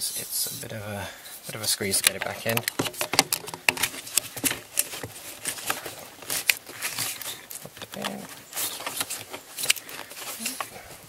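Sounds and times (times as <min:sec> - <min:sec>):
plastic and rubber clicks and scrapes: 0:01.5 - 0:10.8.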